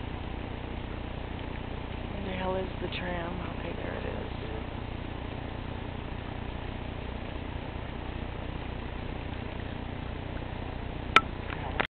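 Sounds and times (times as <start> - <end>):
outdoor background rumble: 0.0 - 11.9.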